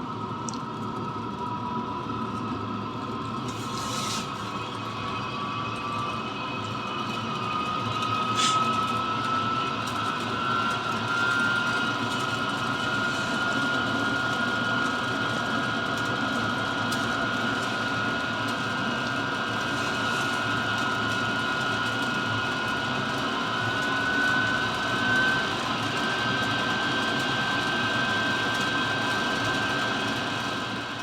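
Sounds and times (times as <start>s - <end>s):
heater blower motor whine: 0.0s - 31.0s.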